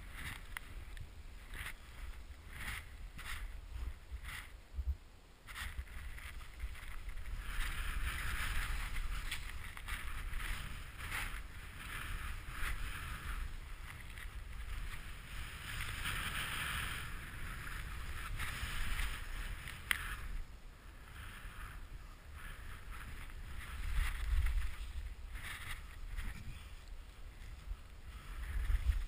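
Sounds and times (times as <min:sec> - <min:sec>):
skis hissing through powder snow: 0:00.0 - 0:04.7, 0:05.4 - 0:29.0
low wind rumble on microphone: 0:00.0 - 0:29.0.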